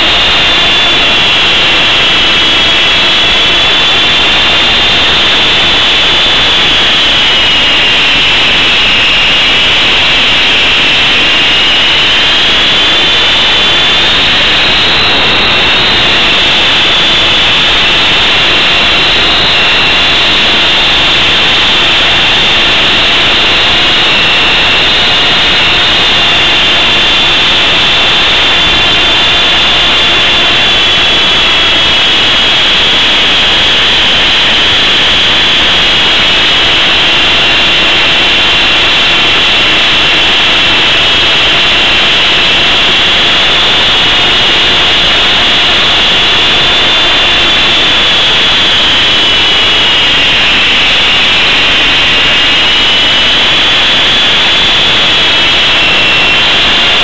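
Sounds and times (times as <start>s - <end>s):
high-pitched motor whine: 0.0s - 57.0s
rotor and airflow noise: 0.0s - 57.0s.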